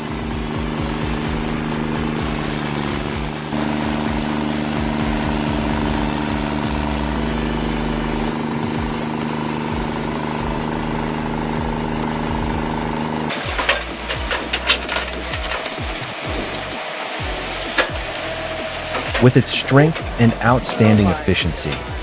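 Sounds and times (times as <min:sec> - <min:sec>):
machine engine running: 0:00.0 - 0:22.0.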